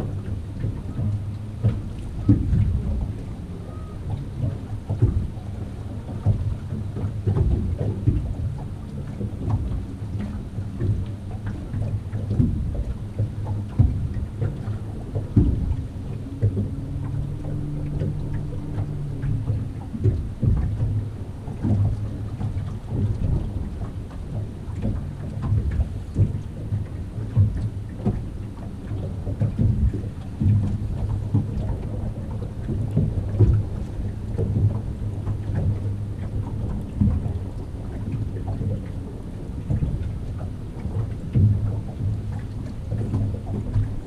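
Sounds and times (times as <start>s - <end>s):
faint hum: 0.0s - 44.0s
wind buffeting microphone: 0.0s - 44.0s.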